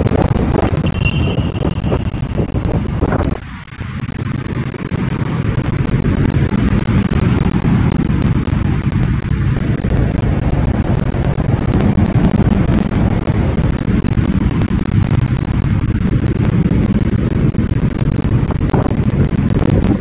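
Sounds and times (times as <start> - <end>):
motorcycle engine: 0.0 - 20.0
road noise: 0.0 - 20.0
wind rush on microphone: 0.0 - 20.0.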